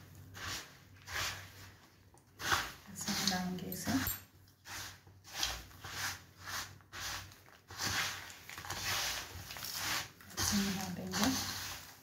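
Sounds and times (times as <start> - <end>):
spoon scraping seeds in metal pan: 0.1 - 1.8, 2.4 - 12.0.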